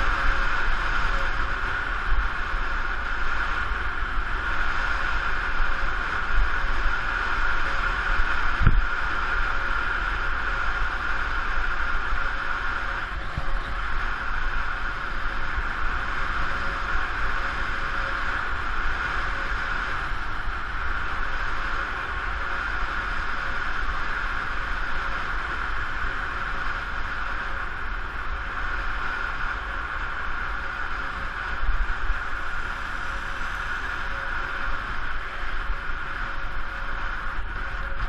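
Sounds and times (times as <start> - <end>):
bicycle tyres on asphalt: 0.0 - 38.0
deep rumble: 0.0 - 38.0
wind on microphone: 0.0 - 38.0.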